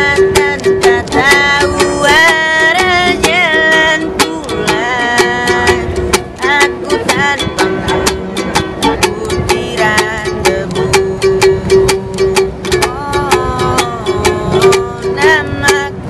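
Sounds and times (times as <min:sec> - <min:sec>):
ukulele strumming: 0:00.0 - 0:16.0
young man singing: 0:00.0 - 0:16.0.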